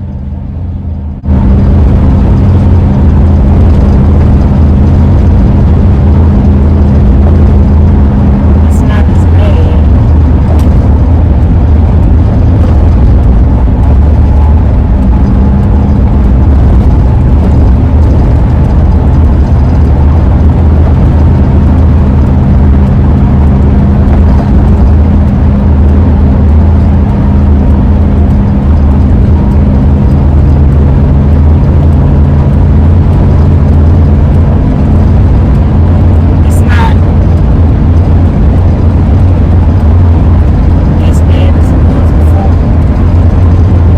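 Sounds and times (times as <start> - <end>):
low droning held tones: 0.0 - 43.9
road and engine noise in van cabin: 0.0 - 43.9.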